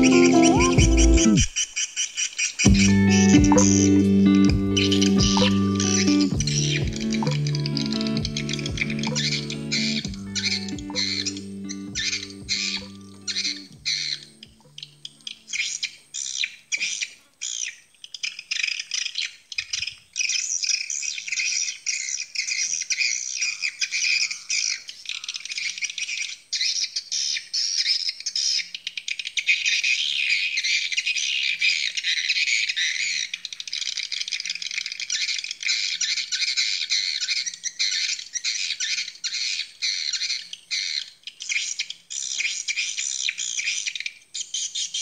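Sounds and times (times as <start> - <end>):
birds chirping and twittering: 0.0 - 45.0.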